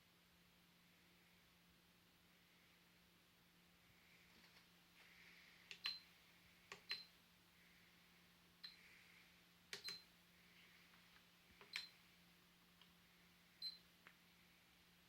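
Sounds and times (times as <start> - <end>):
quiet hiss: 0.0 - 15.0.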